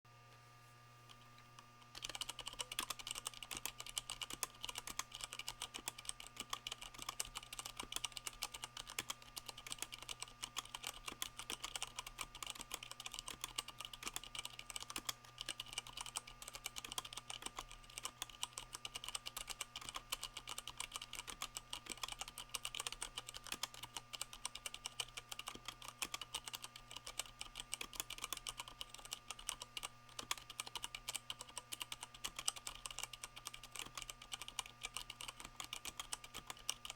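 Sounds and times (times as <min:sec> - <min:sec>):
fast mechanical keyboard typing: 0:01.9 - 0:36.9.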